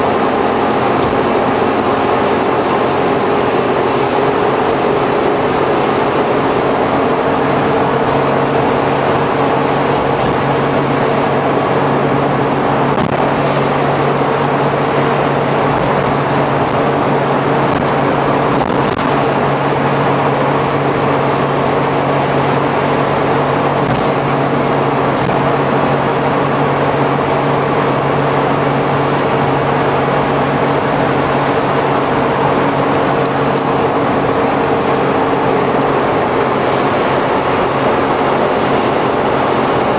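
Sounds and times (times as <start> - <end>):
tyres hissing on wet road: 0.0 - 39.9
van engine humming: 0.0 - 39.9.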